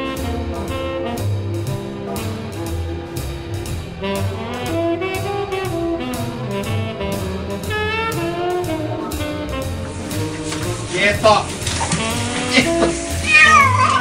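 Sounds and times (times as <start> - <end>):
saxophone melody: 0.0 - 2.8, 3.9 - 14.0
steady drum beat: 0.0 - 13.8
bass line: 0.0 - 14.0.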